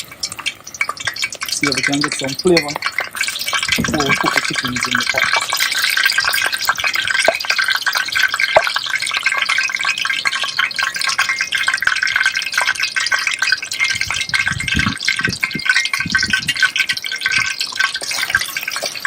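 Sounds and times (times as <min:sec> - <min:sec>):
oil sizzling and crackling: 0:00.0 - 0:19.0.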